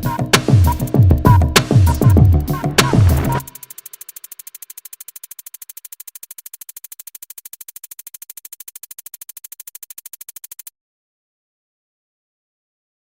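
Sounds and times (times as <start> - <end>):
rapid electronic clicks: 0.0 - 10.7.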